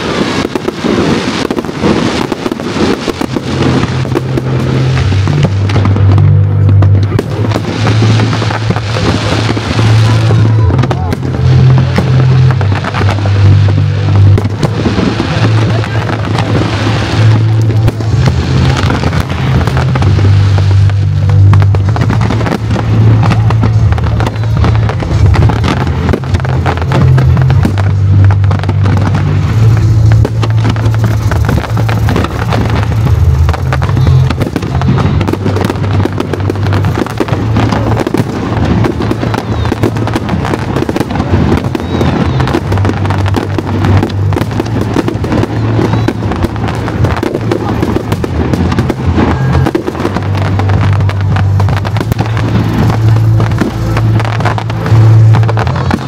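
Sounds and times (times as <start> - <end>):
fireworks bangs and crackles: 0.0 - 56.0
music playing: 0.0 - 56.0.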